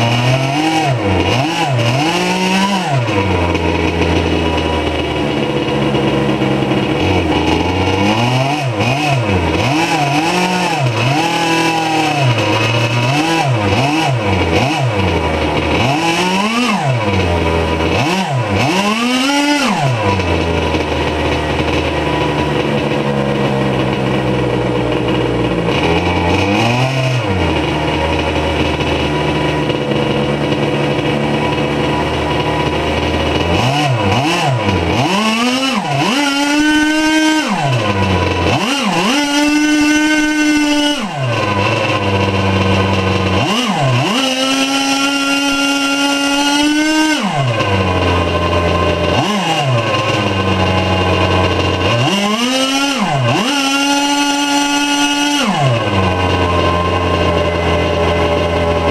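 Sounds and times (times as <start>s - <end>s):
model engine revving: 0.0s - 58.9s.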